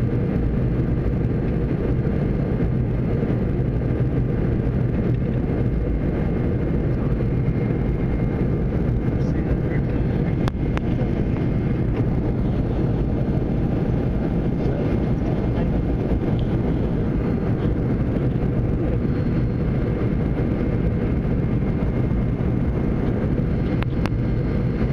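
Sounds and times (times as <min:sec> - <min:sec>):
airliner cabin engine noise: 0:00.0 - 0:24.9.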